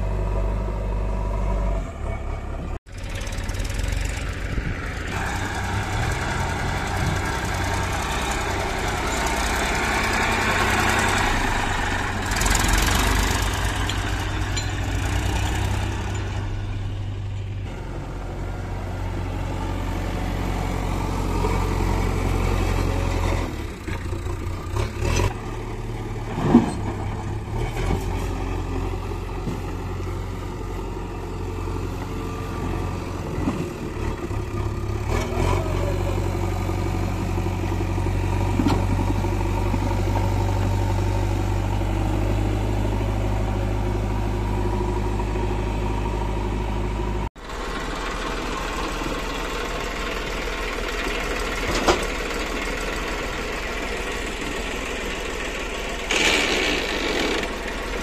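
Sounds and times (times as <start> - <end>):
backhoe loader engine working: 0.0 - 58.0
tractor diesel engine running: 0.0 - 58.0.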